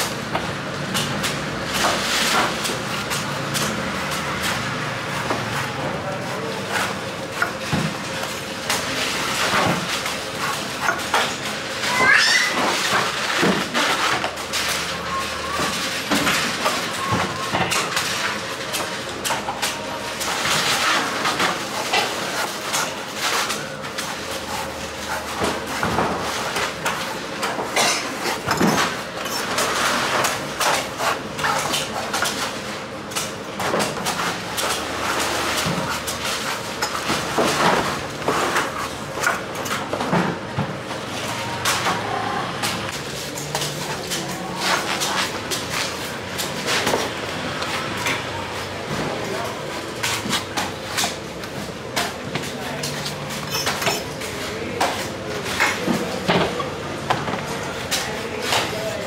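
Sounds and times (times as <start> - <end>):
market bustle: 0.0 - 59.0.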